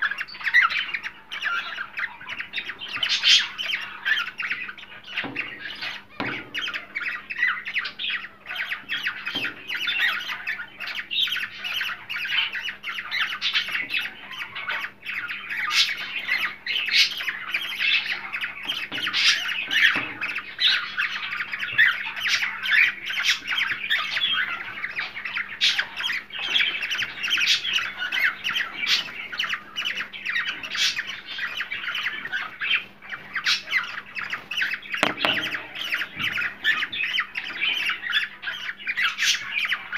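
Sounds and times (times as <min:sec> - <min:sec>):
cockatiels squawking and chattering: 0:00.0 - 0:39.9.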